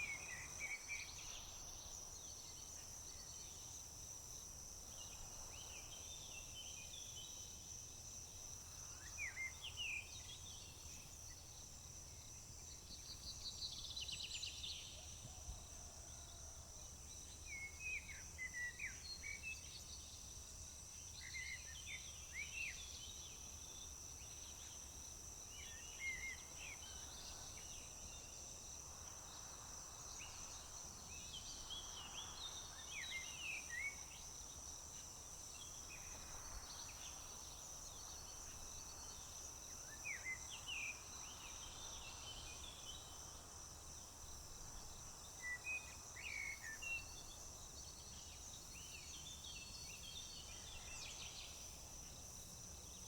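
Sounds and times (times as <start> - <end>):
crickets droning: 0.0 - 53.0.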